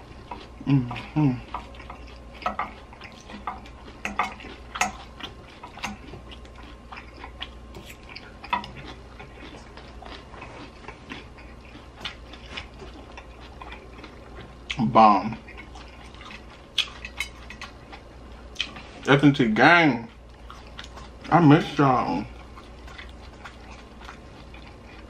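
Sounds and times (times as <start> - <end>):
chewing: 0.0 - 25.0
steady low hum: 0.0 - 25.0.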